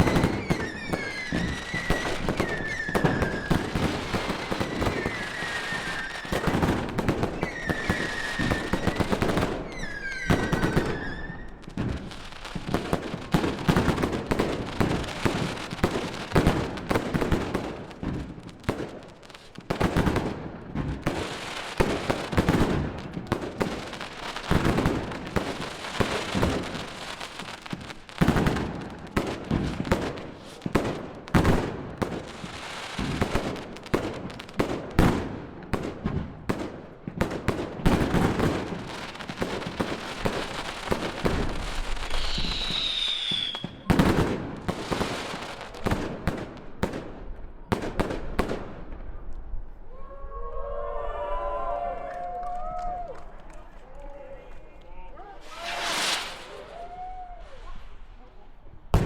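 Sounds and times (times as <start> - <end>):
whistling fireworks: 0.0 - 49.3, 54.3 - 59.0
fireworks popping: 0.0 - 49.4, 54.8 - 59.0
fireworks bangs and crackle: 0.0 - 49.9, 51.4 - 59.0.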